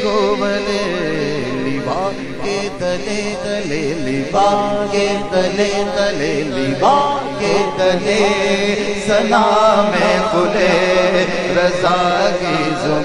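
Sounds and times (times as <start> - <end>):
man singing long held notes: 0.0 - 13.0.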